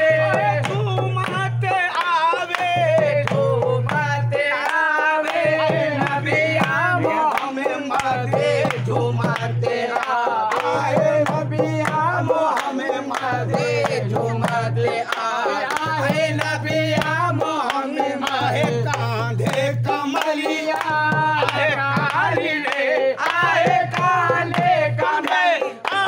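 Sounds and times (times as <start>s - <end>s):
drum beats: 0.0s - 26.0s
men singing devotional song: 0.0s - 26.0s
hand claps: 0.3s - 26.0s.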